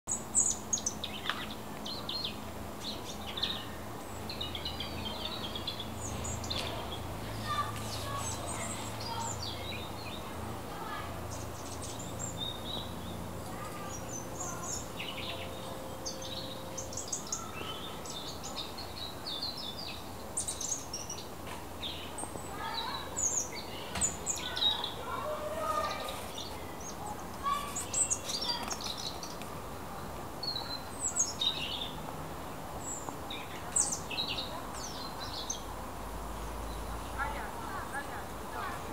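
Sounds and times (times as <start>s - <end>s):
low background noise: 0.1s - 38.9s
songbirds chirping: 0.1s - 38.9s.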